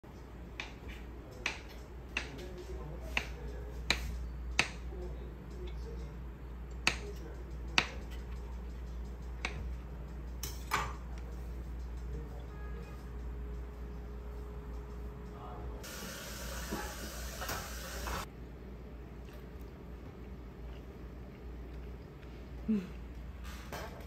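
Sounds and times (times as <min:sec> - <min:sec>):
low steady hum: 0:02.8 - 0:23.4.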